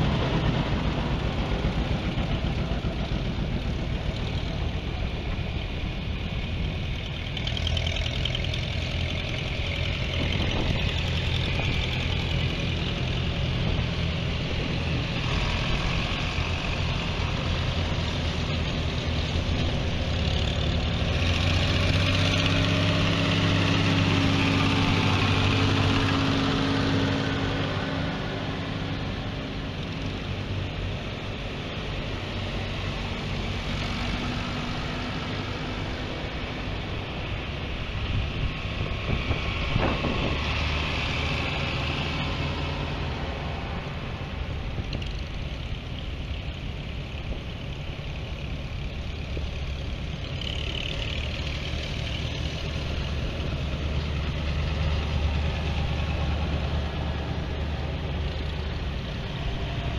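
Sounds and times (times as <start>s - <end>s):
tractor engines driving past: 0.0s - 59.9s
tractor engines idling: 0.0s - 59.9s.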